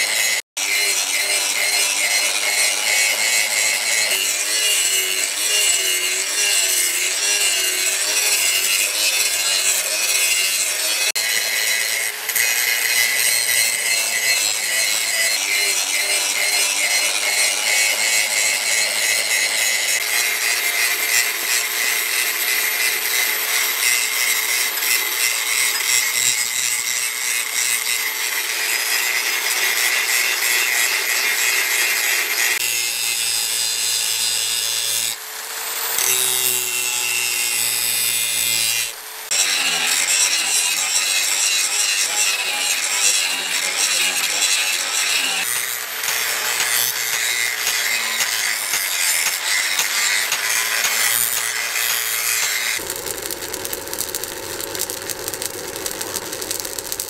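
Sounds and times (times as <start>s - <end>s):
angle grinder grinding steel: 0.0s - 57.0s.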